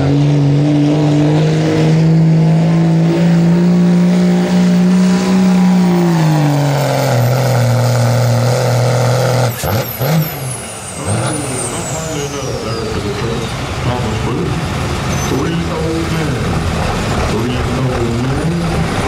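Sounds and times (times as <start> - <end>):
diesel truck engine straining: 0.0 - 19.0.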